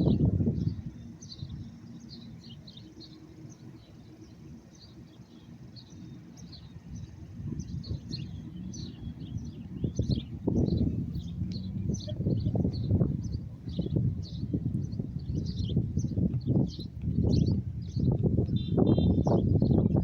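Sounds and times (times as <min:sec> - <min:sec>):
low outdoor rumbling: 0:00.0 - 0:20.0
small birds chirping: 0:00.0 - 0:20.0.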